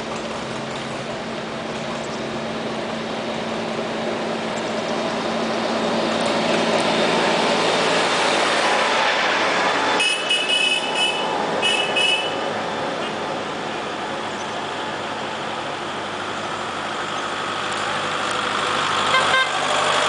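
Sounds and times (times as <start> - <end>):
tractor engine passing: 0.0 - 20.0.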